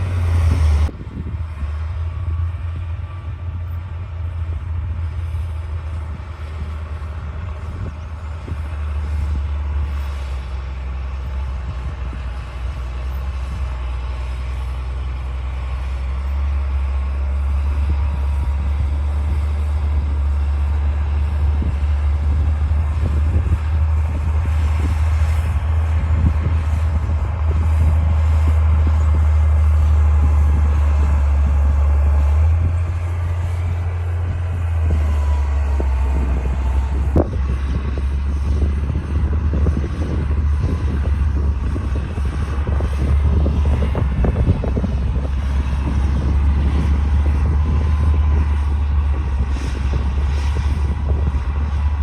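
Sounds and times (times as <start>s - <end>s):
bulldozer diesel engine drone: 0.0s - 52.0s.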